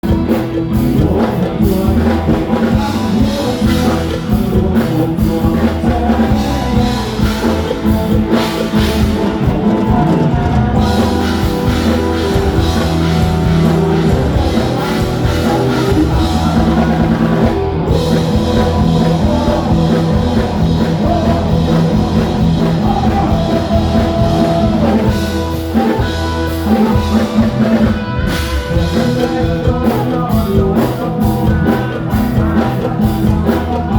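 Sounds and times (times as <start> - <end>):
live rock band playing: 0.0 - 33.9
person singing: 0.0 - 33.9.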